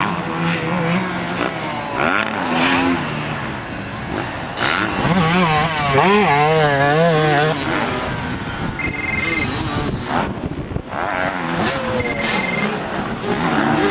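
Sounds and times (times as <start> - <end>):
motocross bike engine revving: 0.0 - 13.9.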